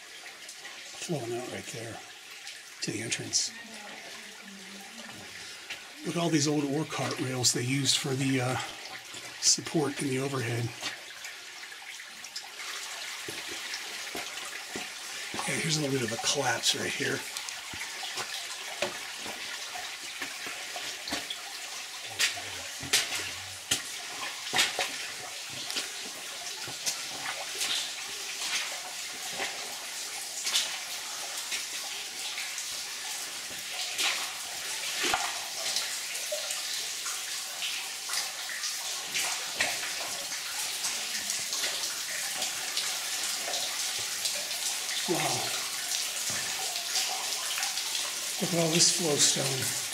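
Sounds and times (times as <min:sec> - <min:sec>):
running water hiss: 0:00.0 - 0:49.9.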